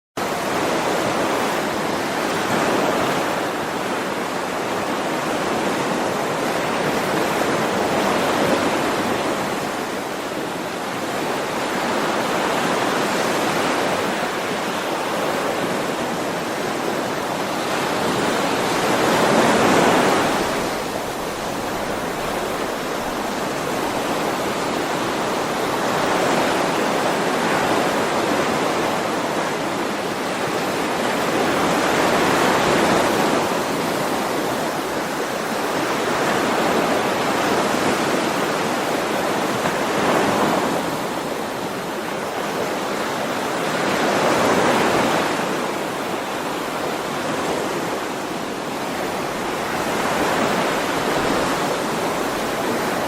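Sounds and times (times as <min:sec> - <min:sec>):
sea waves breaking on shore: 0:00.2 - 0:53.0.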